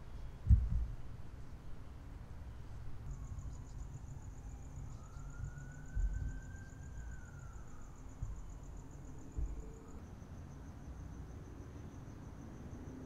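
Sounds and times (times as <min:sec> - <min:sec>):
low outdoor rumble: 0:00.0 - 0:12.8
crickets chirping: 0:00.0 - 0:13.0.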